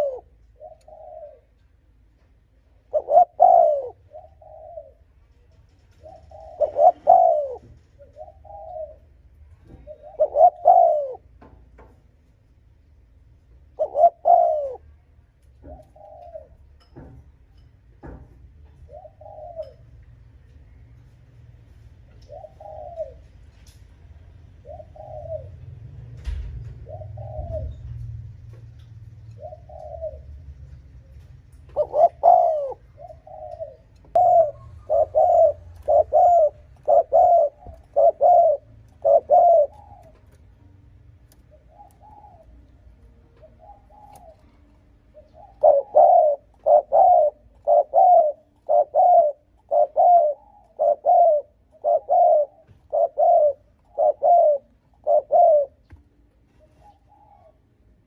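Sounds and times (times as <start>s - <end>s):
dove cooing: 0.0s - 11.5s, 13.6s - 17.2s, 18.0s - 20.0s, 22.0s - 58.0s.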